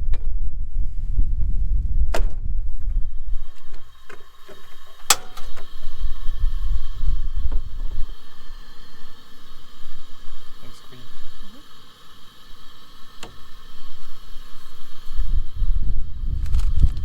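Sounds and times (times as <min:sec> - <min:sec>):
wind gusting on microphone: 0:00.0 - 0:17.0
faint steady hiss: 0:02.6 - 0:17.0
thin humming tones: 0:02.6 - 0:17.0.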